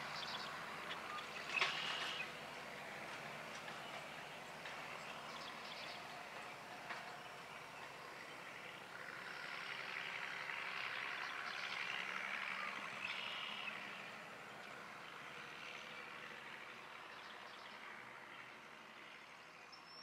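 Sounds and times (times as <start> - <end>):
distant tractor engine: 0.0 - 20.0.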